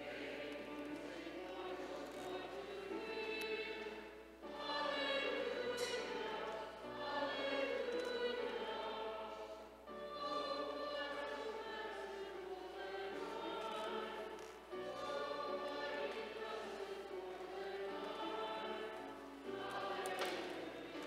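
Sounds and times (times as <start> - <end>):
congregation singing: 0.0 - 21.0.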